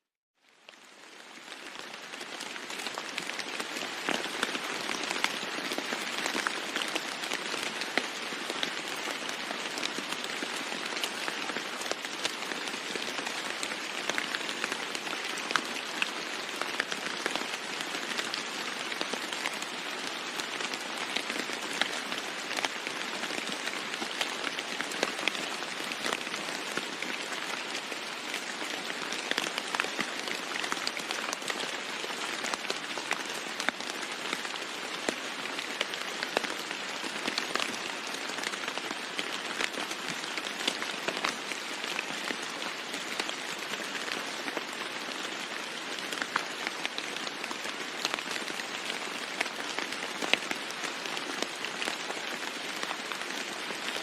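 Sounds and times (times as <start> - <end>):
rain falling on a roof: 0.4 - 54.0.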